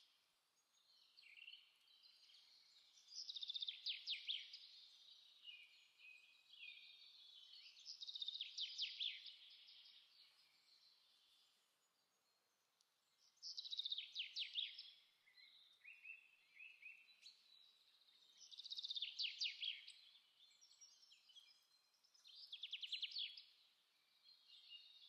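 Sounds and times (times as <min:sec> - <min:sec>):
soft bird chirps: 0:00.0 - 0:25.0.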